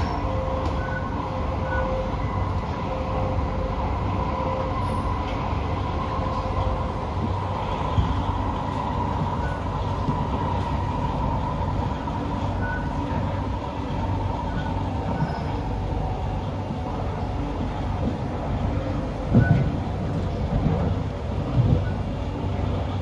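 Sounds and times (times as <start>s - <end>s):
rumble of train wheels on rails: 0.0s - 23.0s.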